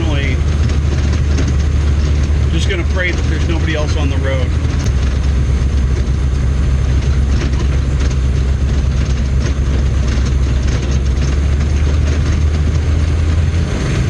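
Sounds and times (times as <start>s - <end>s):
ticks and rattles: 0.0s - 13.7s
diesel engine low drone: 0.0s - 14.0s.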